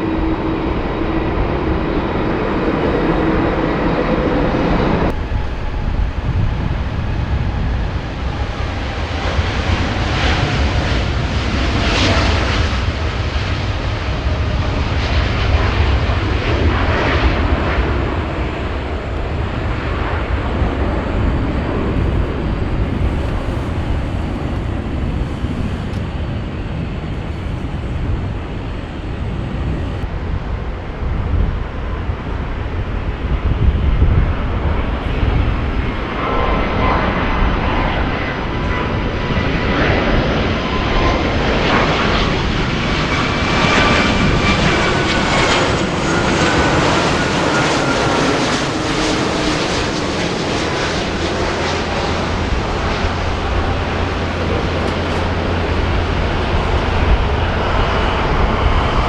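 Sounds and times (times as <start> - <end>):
jet engines rumbling: 0.0 - 59.0
steady engine whine: 0.0 - 59.0.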